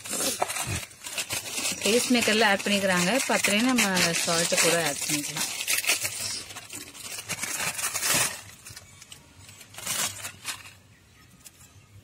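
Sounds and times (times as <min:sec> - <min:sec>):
plastic packet crinkling: 0:00.0 - 0:11.6.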